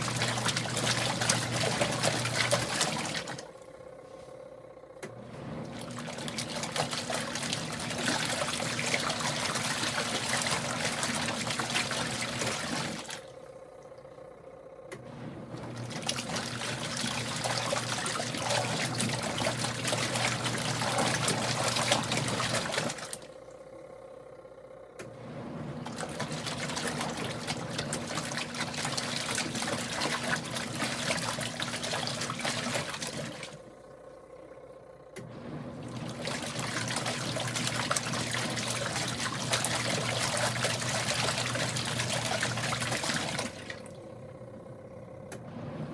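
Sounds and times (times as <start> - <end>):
water sloshing: 0.0 - 3.7, 5.2 - 14.1, 15.0 - 23.4, 25.2 - 33.8, 35.3 - 45.9
washing machine motor humming: 0.0 - 45.9.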